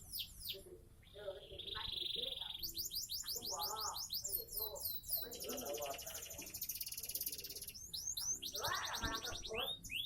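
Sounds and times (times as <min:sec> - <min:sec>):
canary singing: 0:00.0 - 0:10.0.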